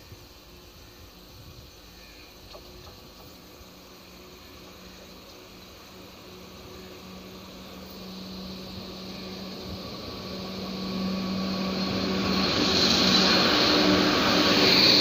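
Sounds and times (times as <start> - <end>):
locomotive low hum: 0.0 - 15.0
wheels rushing on rails: 1.2 - 15.0.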